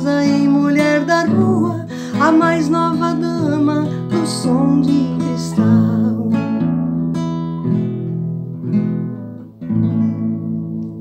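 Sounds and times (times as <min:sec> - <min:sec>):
acoustic guitar chords ringing: 0:00.0 - 0:11.0.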